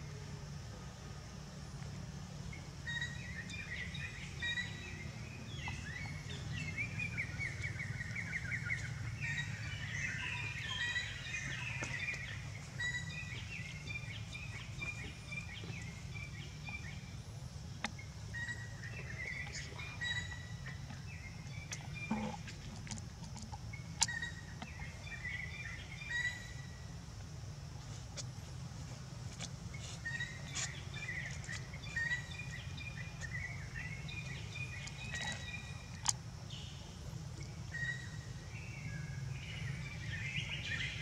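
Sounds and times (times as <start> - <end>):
low outdoor rumble: 0.0 - 41.0
small birds chirping: 2.5 - 26.9, 27.5 - 41.0.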